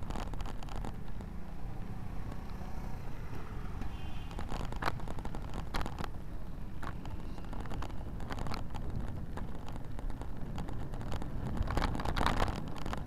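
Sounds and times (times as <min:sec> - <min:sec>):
bike rattling over bumps: 0:00.0 - 0:13.0
wind and tyre rumble: 0:00.0 - 0:13.0.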